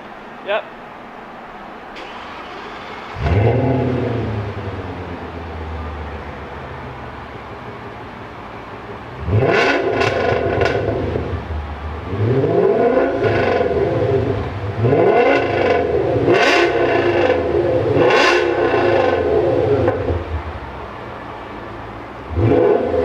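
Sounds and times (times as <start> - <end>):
car engine revving: 2.0 - 23.0.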